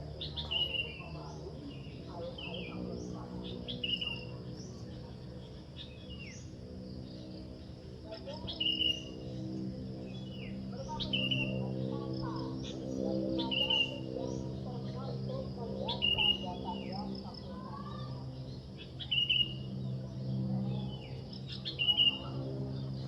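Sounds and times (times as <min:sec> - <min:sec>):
birds calling: 0:00.0 - 0:23.0
low steady hum: 0:00.0 - 0:23.0.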